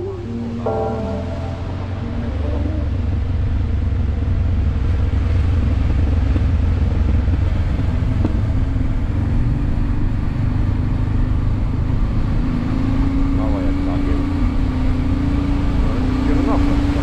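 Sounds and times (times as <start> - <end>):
motorcycle engine running: 0.0 - 17.0
wind and road noise rumble: 1.6 - 17.0.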